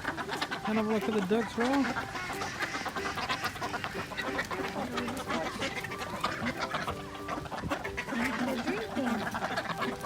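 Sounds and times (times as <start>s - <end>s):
ducks and fowl calling: 0.0s - 10.0s.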